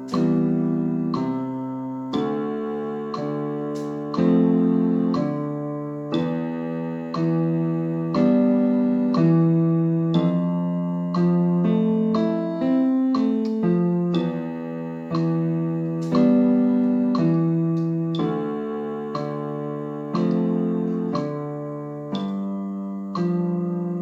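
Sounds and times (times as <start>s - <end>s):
keyboard accompaniment: 0.0s - 24.0s
keyboard piano melody: 0.0s - 24.0s.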